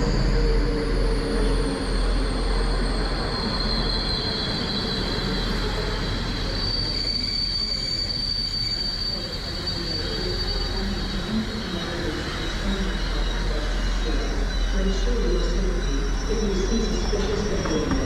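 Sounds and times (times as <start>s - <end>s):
train wheel squeal: 0.0s - 18.0s.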